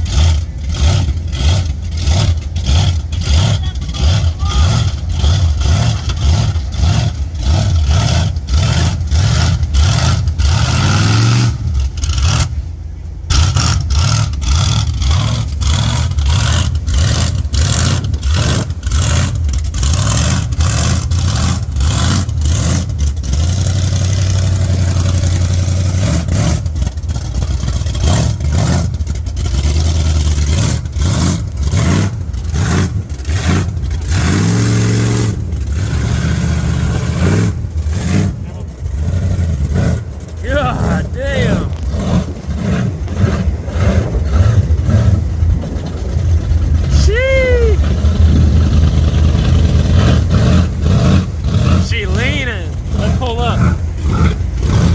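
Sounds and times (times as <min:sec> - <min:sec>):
truck engine revving hard: 0:00.0 - 0:54.9.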